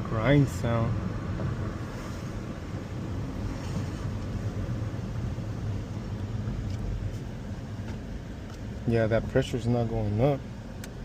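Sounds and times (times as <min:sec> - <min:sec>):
car interior low rumble: 0:00.0 - 0:11.0.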